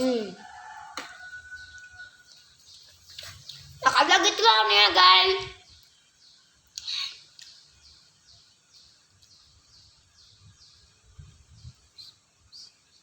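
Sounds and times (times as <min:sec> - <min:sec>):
bird chirping: 0:01.2 - 0:13.0.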